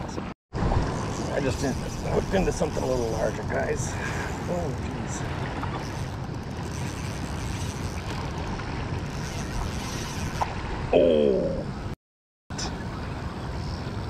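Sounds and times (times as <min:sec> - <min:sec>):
spillway water flowing: 0:00.0 - 0:11.4.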